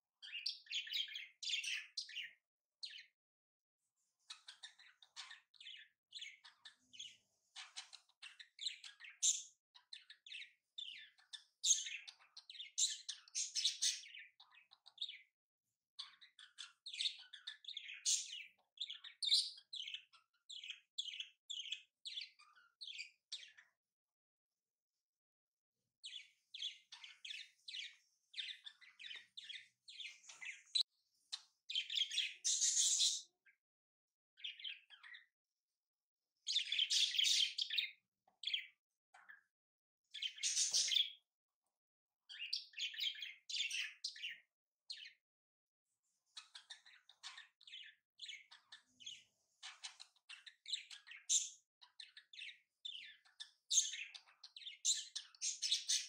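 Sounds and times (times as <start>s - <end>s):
birds chirping: 0.0s - 3.2s, 4.0s - 15.4s, 16.0s - 23.8s, 26.0s - 33.6s, 34.4s - 35.4s, 36.4s - 39.5s, 40.1s - 41.3s, 42.3s - 45.2s, 46.1s - 56.0s.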